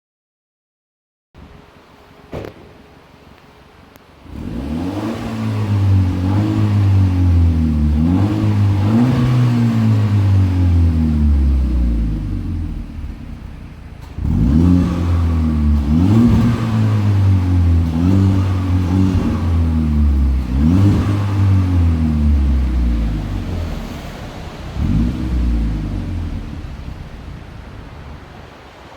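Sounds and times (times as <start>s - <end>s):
car engine revving: 4.2s - 28.9s.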